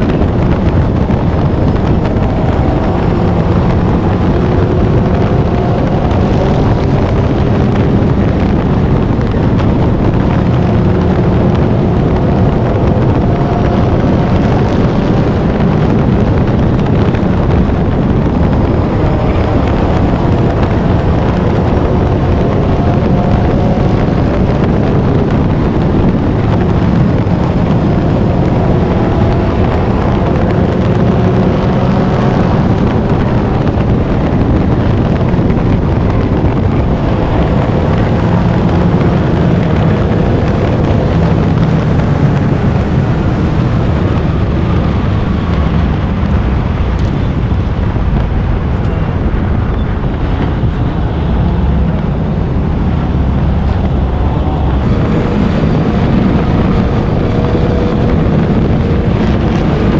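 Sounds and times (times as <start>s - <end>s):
race car engine drone: 0.0s - 59.9s
wind noise: 0.0s - 59.9s.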